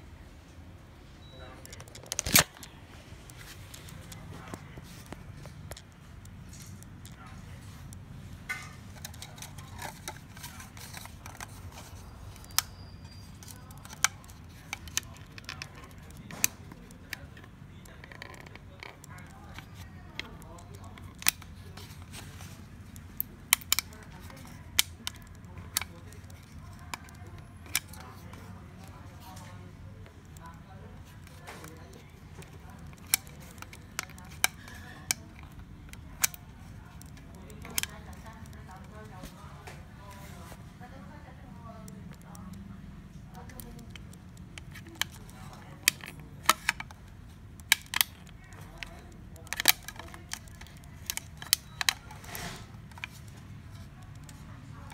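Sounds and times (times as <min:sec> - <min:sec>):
plastic and metal parts clicking: 0:01.6 - 0:07.3, 0:07.9 - 0:39.7, 0:41.2 - 0:54.9
sharp plastic snaps: 0:01.6 - 0:07.3, 0:07.9 - 0:39.8, 0:41.3 - 0:54.9.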